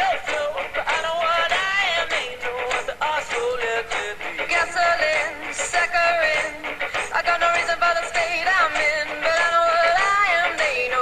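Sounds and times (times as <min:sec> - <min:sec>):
song with singing voice: 0:00.0 - 0:11.0.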